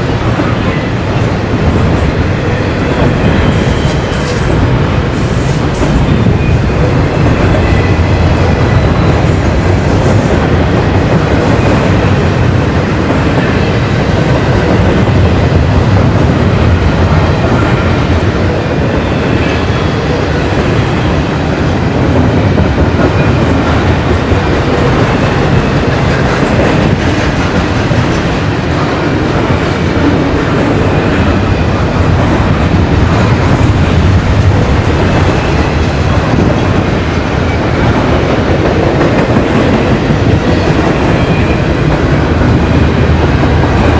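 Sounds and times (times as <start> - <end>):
railroad cars clickety-clack: 0.0 - 43.9.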